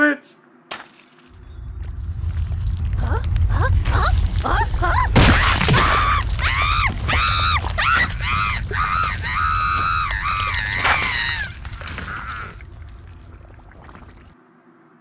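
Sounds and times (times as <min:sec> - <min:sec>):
shattering crash: 0:00.7 - 0:14.1.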